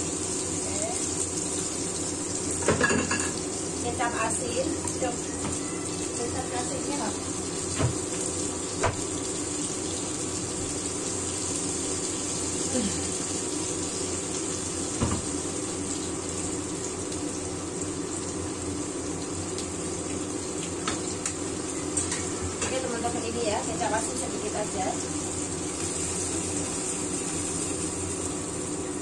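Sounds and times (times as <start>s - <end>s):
food sizzling in a wok: 0.0s - 29.0s.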